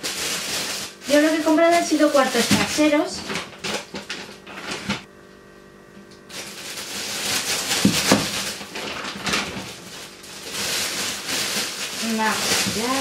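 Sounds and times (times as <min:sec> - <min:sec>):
plastic bags crinkling: 0:00.0 - 0:05.1, 0:06.2 - 0:13.0.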